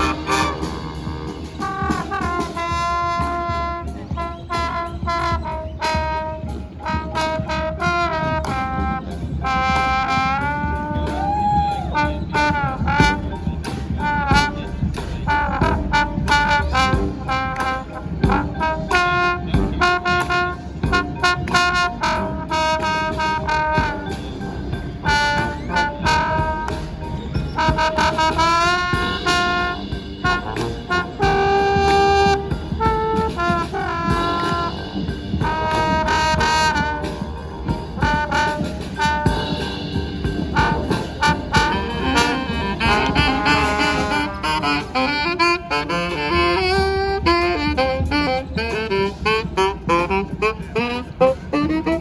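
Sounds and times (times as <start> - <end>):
brass band playing: 0.0 - 52.0
drums: 0.0 - 52.0.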